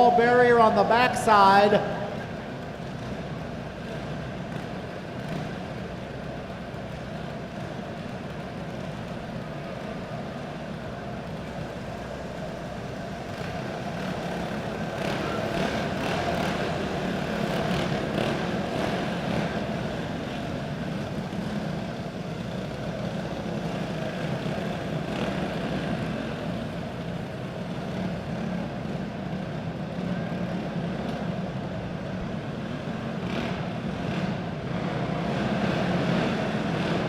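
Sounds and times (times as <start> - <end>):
kart engines droning: 0.0 - 37.0.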